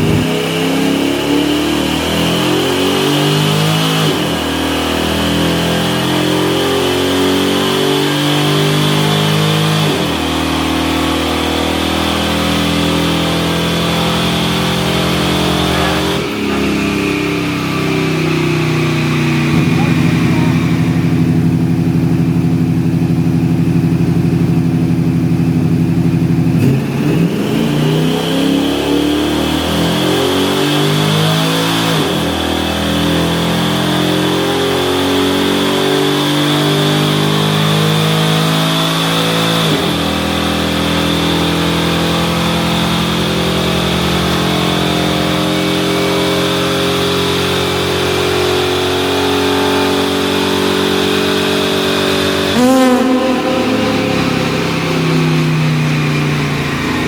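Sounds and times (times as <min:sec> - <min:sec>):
pickup truck engine running hard: 0:00.0 - 0:57.0.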